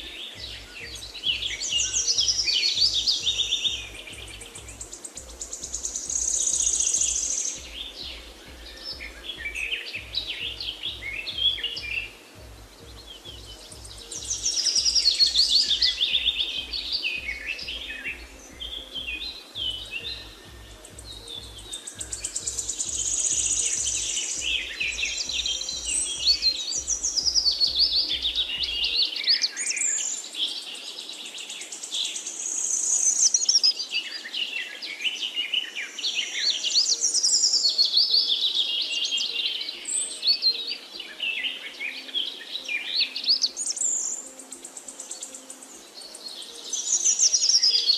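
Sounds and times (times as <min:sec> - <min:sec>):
songbirds chirping and trilling: 0:00.0 - 0:47.9.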